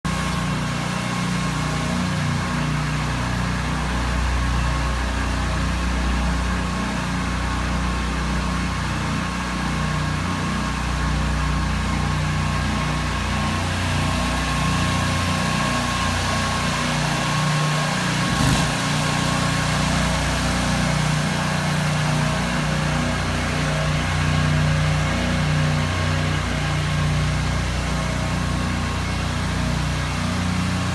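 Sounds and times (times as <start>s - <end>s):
small engine running: 0.1s - 30.9s.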